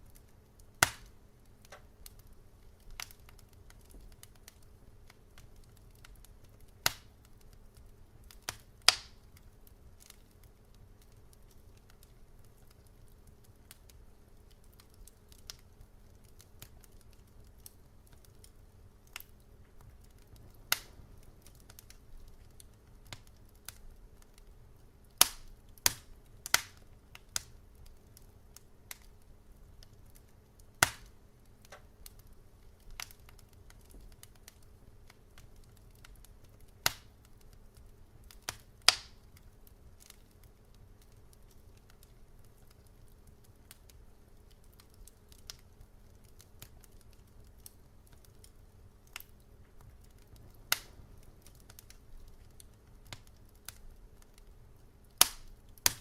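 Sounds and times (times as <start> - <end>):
faint low hum: 0.0 - 56.0
wood fire crackling: 0.0 - 56.0.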